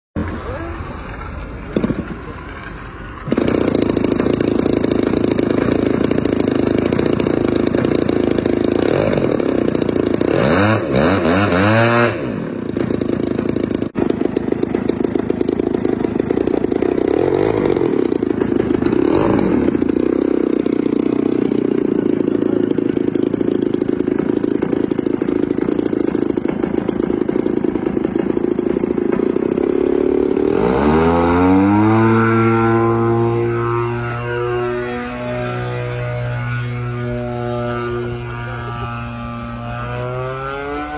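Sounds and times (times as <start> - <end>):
model airplane engine revving: 1.7 - 40.9.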